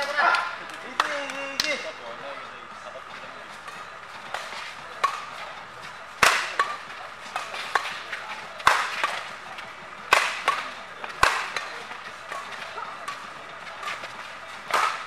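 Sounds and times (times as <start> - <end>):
rackets hitting shuttlecock: 0.0 - 2.2, 3.2 - 15.0
crowd murmur: 0.4 - 15.0.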